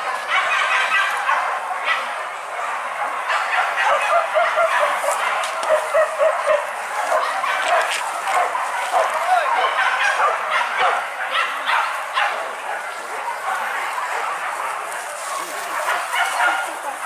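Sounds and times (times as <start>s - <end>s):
dogs barking and yelping: 0.0s - 17.0s.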